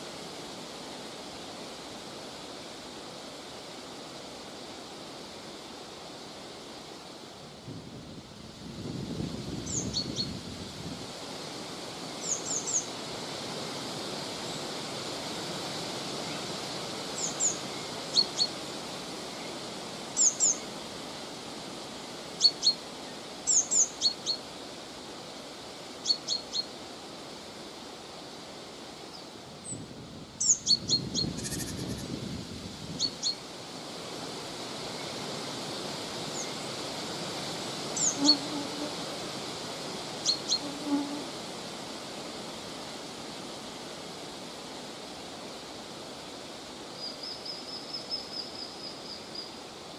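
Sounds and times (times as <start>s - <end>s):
wind through trees: 0.0s - 49.9s.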